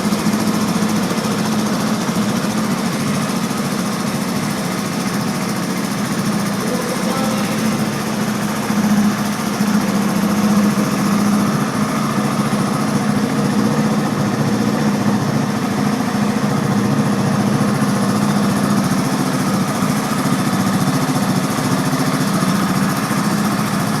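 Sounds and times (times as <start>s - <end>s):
quad bike engine idling: 0.0s - 24.0s.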